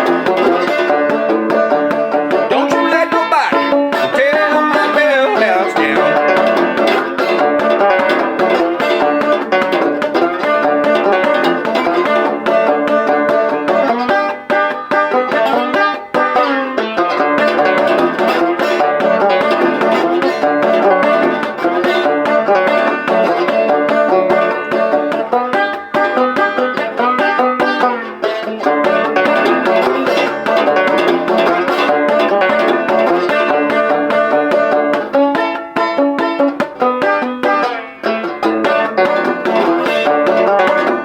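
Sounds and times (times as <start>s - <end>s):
slide banjo-guitar blues riff: 0.0s - 41.0s.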